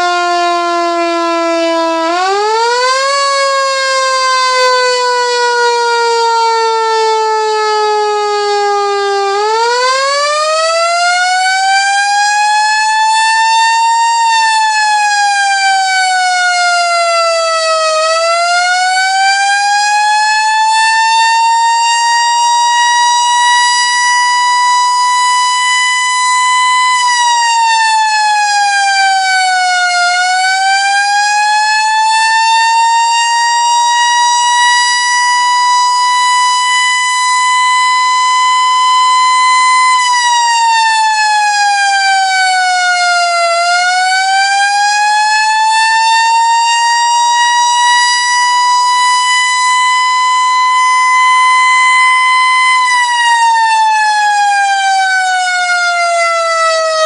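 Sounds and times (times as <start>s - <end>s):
electromechanical siren wailing: 0.0s - 57.0s.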